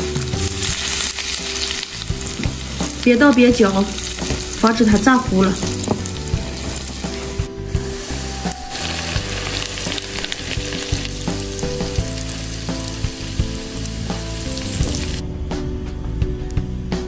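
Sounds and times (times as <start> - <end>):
hot oil sizzling and bubbling: 0.0 - 15.2.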